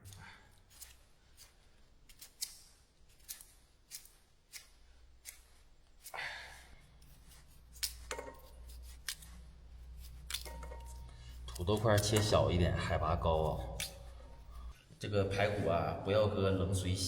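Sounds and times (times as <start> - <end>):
knife scraping: 0.0 - 6.2, 6.8 - 14.8.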